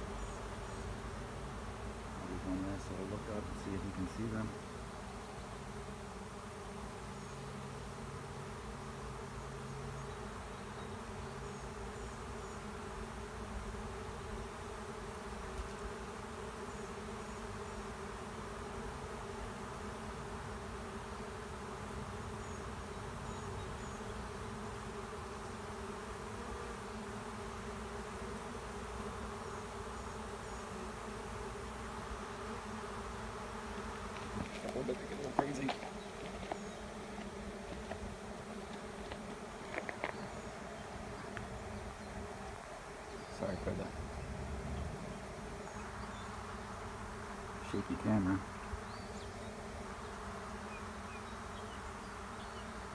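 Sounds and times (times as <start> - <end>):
bee swarm buzzing: 0.0 - 52.9.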